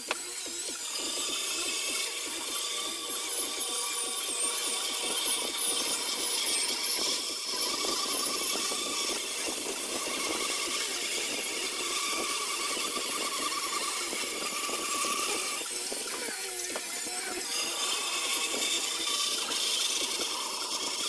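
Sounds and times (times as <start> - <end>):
electric sander whirring on wood: 0.0 - 21.0.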